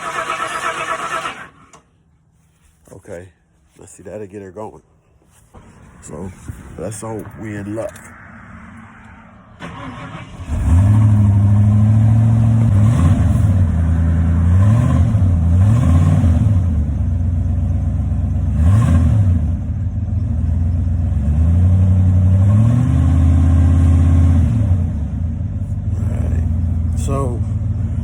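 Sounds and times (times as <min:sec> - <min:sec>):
truck engine starting and revving: 0:00.0 - 0:01.9, 0:05.5 - 0:28.0.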